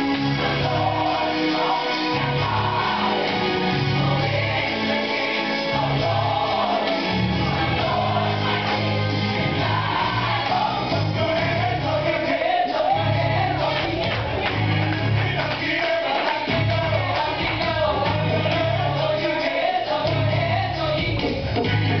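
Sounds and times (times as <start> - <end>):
pulsing bass line: 0.0 - 12.3, 12.9 - 15.8, 16.5 - 19.3, 20.0 - 22.0
gospel choir singing: 0.0 - 22.0.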